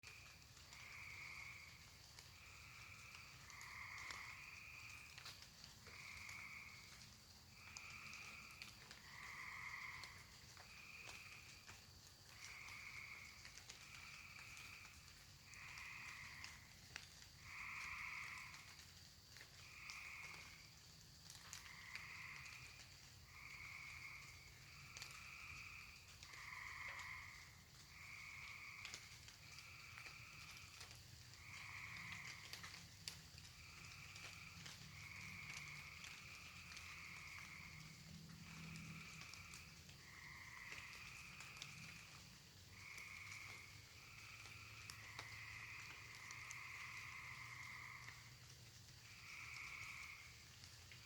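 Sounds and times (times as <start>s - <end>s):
crickets droning: 0.0s - 51.0s
frogs trilling: 0.0s - 51.0s.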